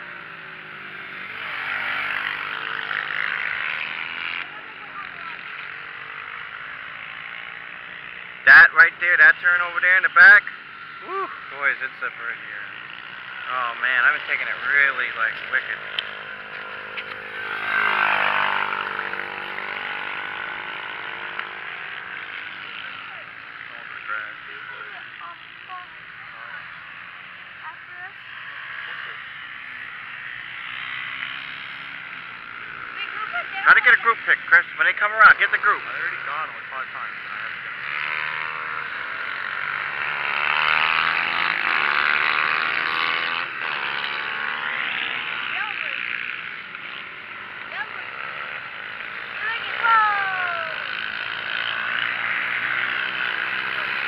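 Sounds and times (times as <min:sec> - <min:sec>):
distant motorcycle engine drone: 0:00.0 - 0:54.0
motorcycles passing at high revs: 0:00.0 - 0:54.0.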